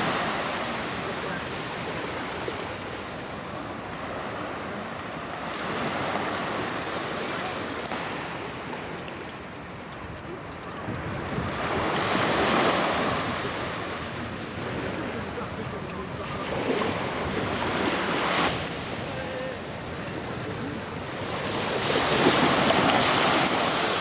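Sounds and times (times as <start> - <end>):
sea waves breaking: 0.0 - 24.0
wind: 0.0 - 24.0.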